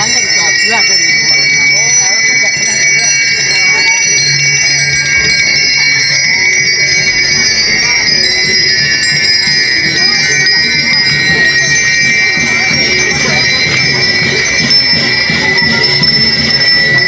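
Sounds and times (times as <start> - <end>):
metallic jingling and ringing: 0.0 - 17.0.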